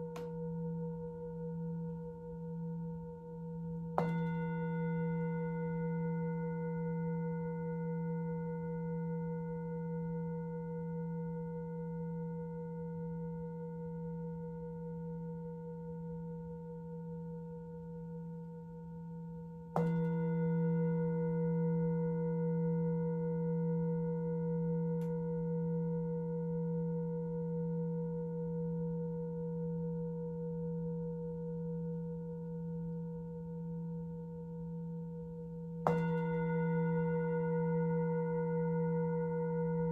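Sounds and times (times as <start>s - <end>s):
singing bowl ringing: 0.0s - 39.9s.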